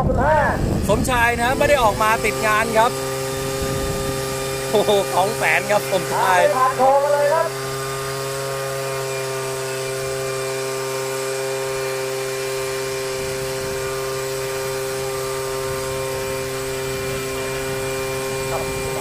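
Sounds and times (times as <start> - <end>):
small boat engine buzzing: 0.0 - 19.0.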